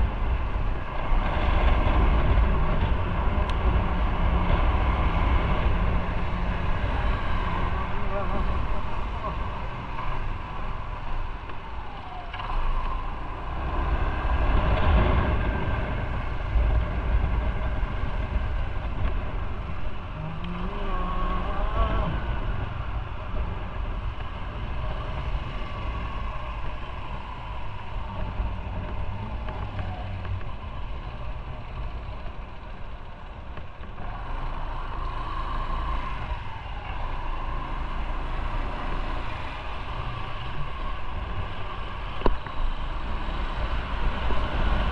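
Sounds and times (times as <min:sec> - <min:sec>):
motorcycle engine: 0:00.0 - 0:44.9
wind rumble on microphone: 0:00.0 - 0:44.9.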